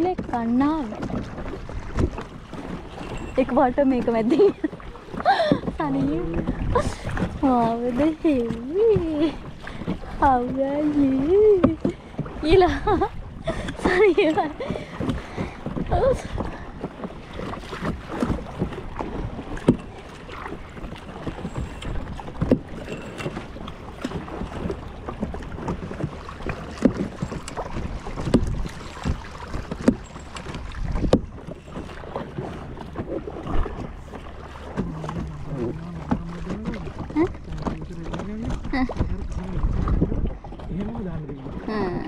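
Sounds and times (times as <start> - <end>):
kayak paddle splashes and knocks: 0.0 - 42.0
wind on microphone: 0.0 - 42.0.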